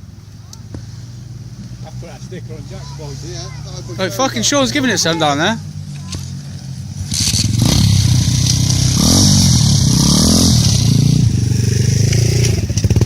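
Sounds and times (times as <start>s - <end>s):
pit bike engines revving: 0.0s - 13.0s.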